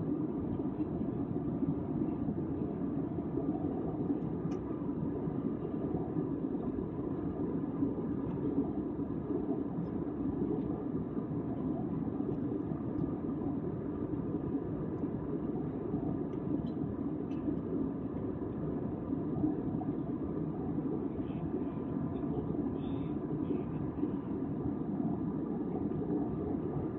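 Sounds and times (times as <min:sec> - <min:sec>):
jet airliner cabin rumble: 0:00.0 - 0:26.9.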